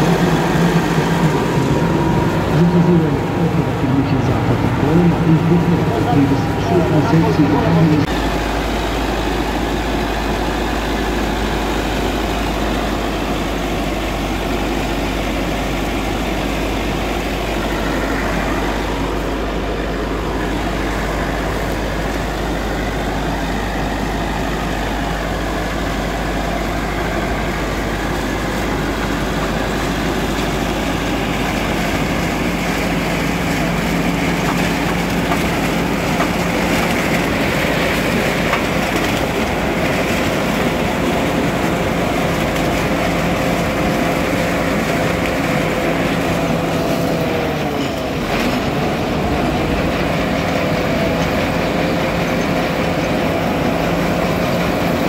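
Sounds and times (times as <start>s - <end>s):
tractor engine and corn picker: 0.0s - 55.0s.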